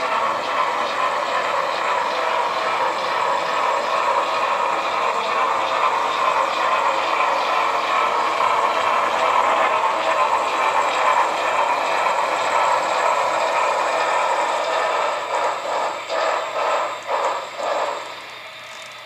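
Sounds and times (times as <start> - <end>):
model train wheels rattling: 0.0 - 19.0.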